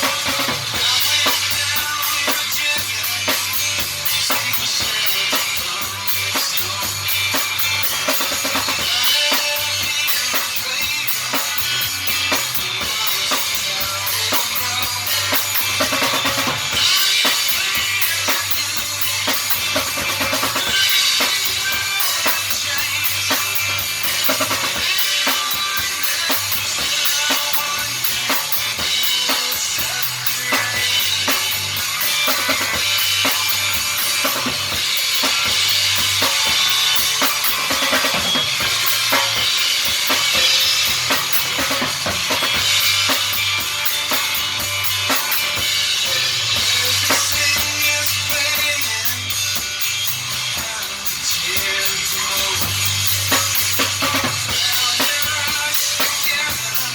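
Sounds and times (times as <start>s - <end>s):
drum kit: 0.0s - 56.9s
rock and roll band playing: 0.0s - 56.9s.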